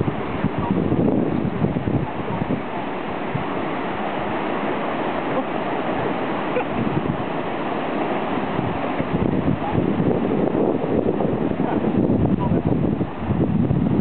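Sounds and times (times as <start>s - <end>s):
surf breaking on beach: 0.0s - 14.0s.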